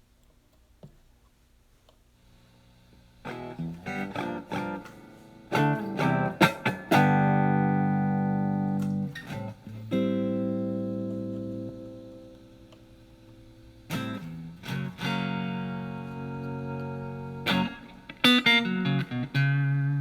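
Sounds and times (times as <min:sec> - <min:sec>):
electric guitar notes and chords: 0:03.2 - 0:20.0.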